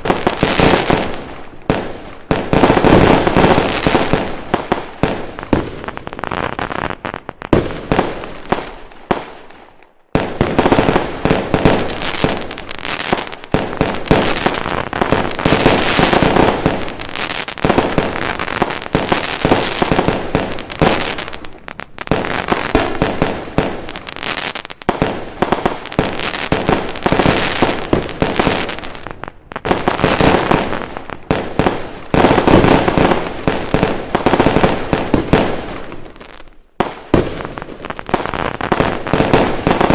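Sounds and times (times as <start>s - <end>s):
fireworks banging and crackling: 0.0s - 39.9s.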